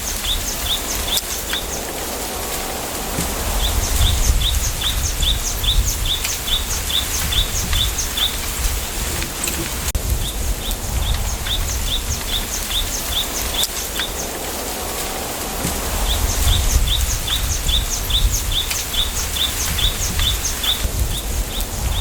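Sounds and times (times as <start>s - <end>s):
songbird chirping: 0.0s - 22.0s
low rumble: 1.9s - 13.1s, 14.3s - 22.0s.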